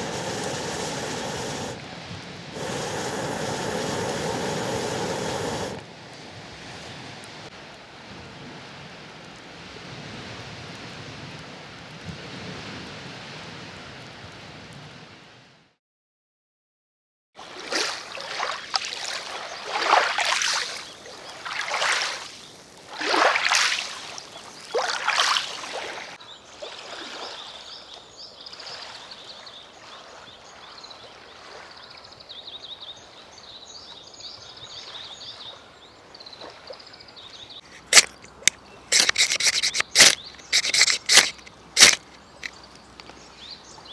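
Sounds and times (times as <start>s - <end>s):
water washing ashore: 0.0s - 15.2s, 17.4s - 33.4s, 34.4s - 43.9s.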